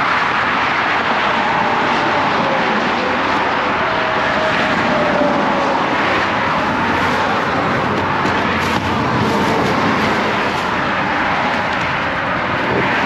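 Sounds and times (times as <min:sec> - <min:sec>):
fast highway traffic: 0:00.0 - 0:13.0.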